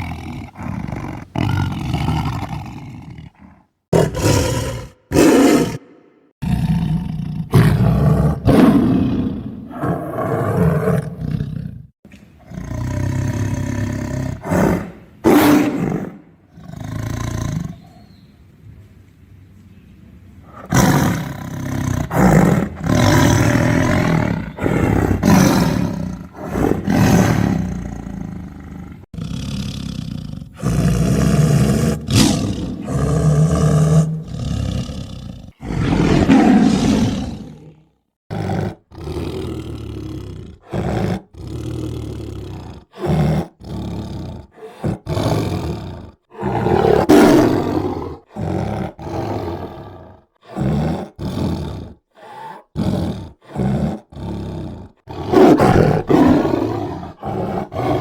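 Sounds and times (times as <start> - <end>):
tiger roaring and growling: 0.0 - 18.0, 20.4 - 58.0.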